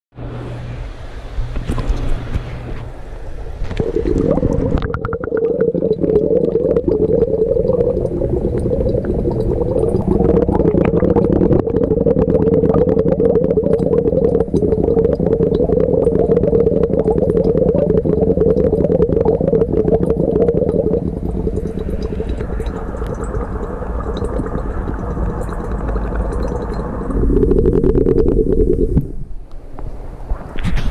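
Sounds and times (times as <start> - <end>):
pump hum: 0.2 - 30.3
water bubbling and gurgling: 3.5 - 29.5.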